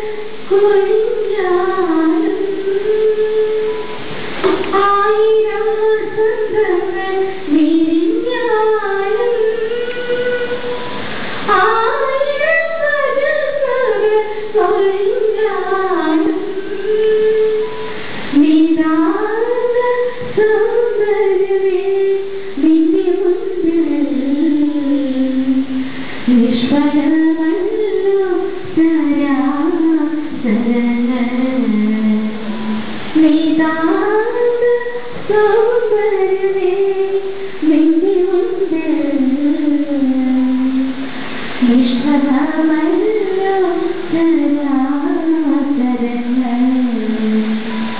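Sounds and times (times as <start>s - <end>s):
woman singing: 0.0s - 47.9s.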